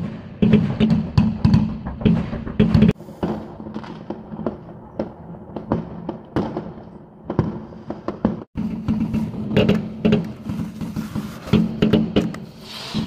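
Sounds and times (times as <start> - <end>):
fireworks bangs and cracks: 0.0 - 12.6.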